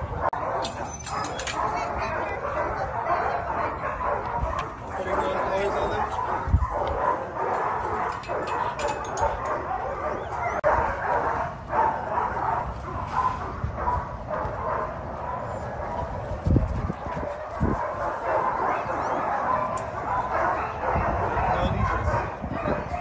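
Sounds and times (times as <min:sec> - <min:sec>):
dogs barking and yipping: 0:00.0 - 0:23.0.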